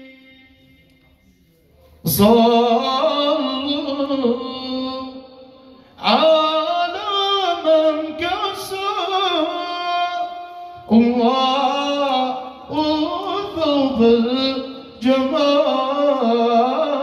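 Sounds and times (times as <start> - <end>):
devotional singing: 0.0 - 1.0, 2.0 - 17.0.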